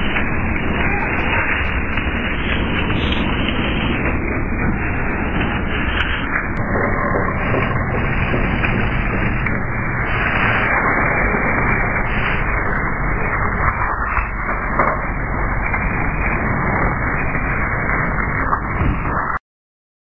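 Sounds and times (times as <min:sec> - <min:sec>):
constant rushing noise: 0:00.0 - 0:19.4
truck engine rumbling: 0:00.0 - 0:19.4.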